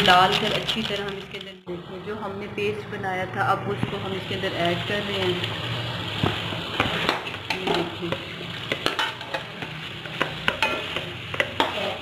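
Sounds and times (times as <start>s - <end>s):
chicken sizzling in a pot: 0.0s - 2.3s, 3.9s - 12.0s.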